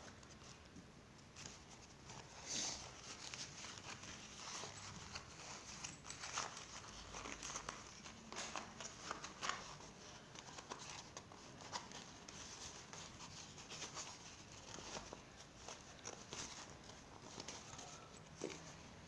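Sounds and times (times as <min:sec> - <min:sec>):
fabric rustling and rubbing: 0:01.3 - 0:19.0.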